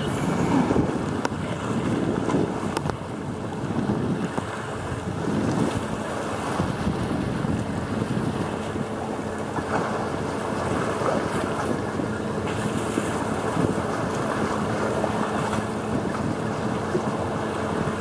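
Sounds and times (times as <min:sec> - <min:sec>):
small waves washing against concrete: 0:00.0 - 0:18.0
wind buffeting microphone: 0:00.0 - 0:18.0.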